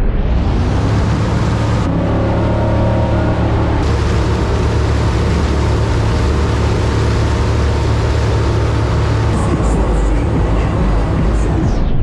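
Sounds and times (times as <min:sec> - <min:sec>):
boat engine droning: 0:00.0 - 0:11.8.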